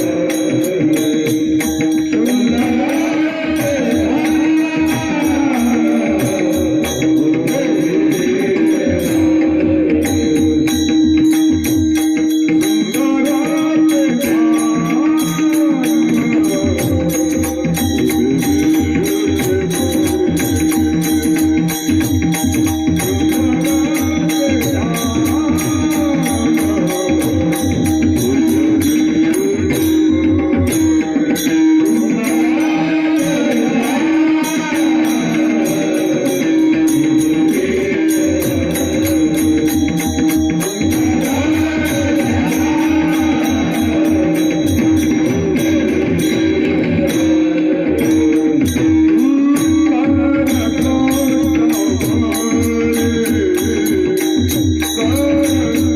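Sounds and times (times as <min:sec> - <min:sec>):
man singing: 0:00.0 - 0:55.9
small hand cymbals ringing: 0:00.0 - 0:55.9.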